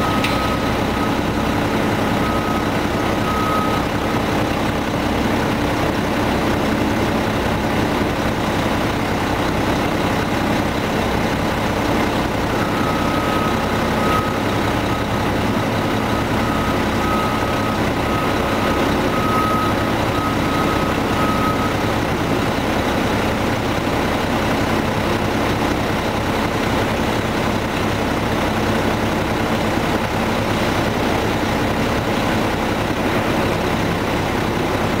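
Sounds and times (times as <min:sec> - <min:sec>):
garbage truck engine running: 0:00.0 - 0:35.0.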